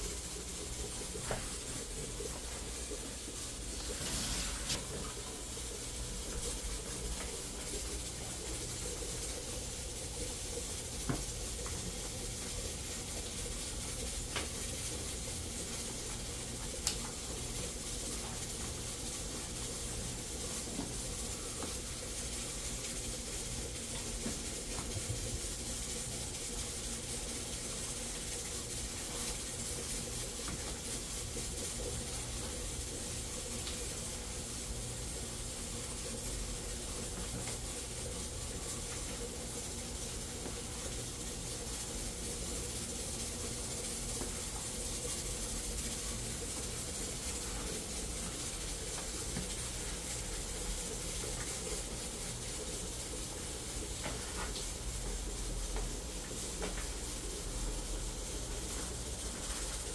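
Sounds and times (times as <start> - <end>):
light clicks of mixing dough: 0.0 - 59.9
steady kitchen hiss: 0.0 - 59.9.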